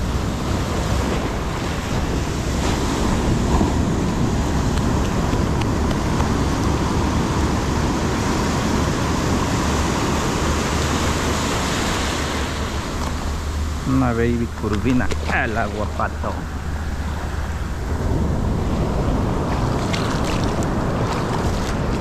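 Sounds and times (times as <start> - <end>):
ocean surf washing in: 0.0 - 22.0
wind rumble on microphone: 0.0 - 22.0.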